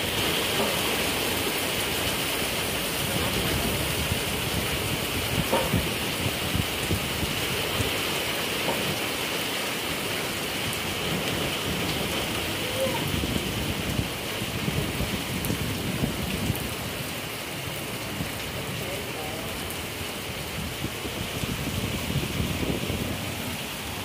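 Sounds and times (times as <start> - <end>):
heavy rain: 0.0 - 24.0
raindrops ticking close by: 0.0 - 24.0.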